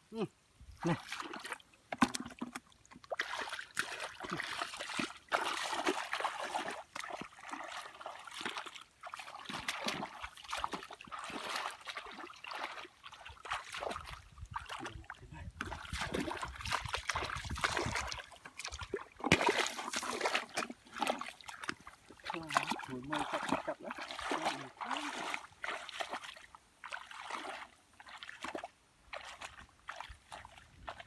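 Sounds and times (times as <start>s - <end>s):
water splashing and sloshing: 0.8s - 31.0s.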